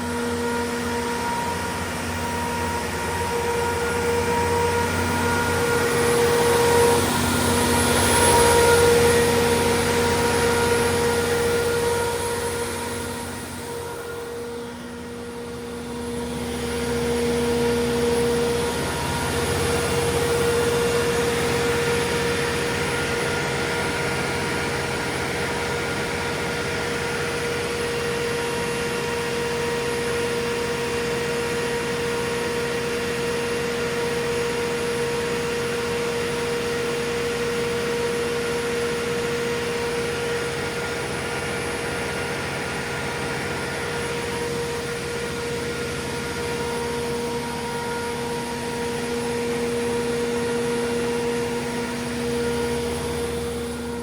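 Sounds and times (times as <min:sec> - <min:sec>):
generator diesel engine humming: 0:00.0 - 0:31.6, 0:39.6 - 0:54.0.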